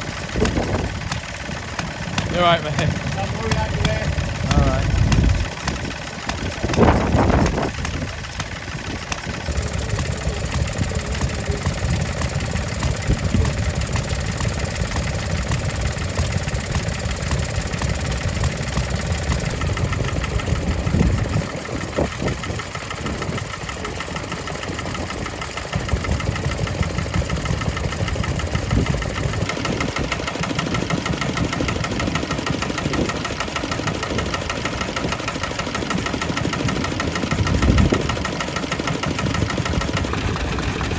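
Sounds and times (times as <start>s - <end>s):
stationary engines running: 0.0s - 40.9s
wind buffeting microphone: 0.0s - 40.9s.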